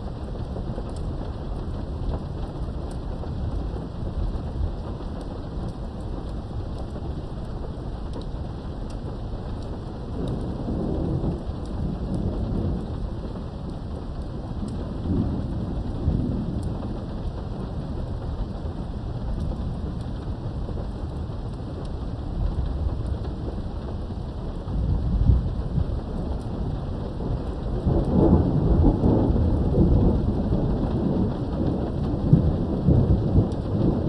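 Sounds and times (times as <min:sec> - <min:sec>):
steady rain: 0:00.0 - 0:34.0
thunder rumbling: 0:00.1 - 0:34.0.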